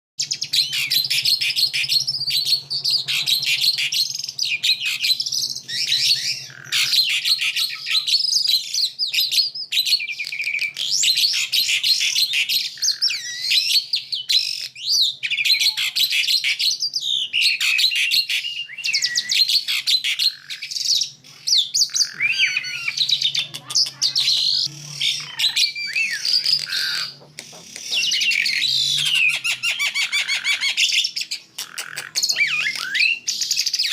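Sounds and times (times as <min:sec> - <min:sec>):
songbirds singing: 0:00.2 - 0:33.9.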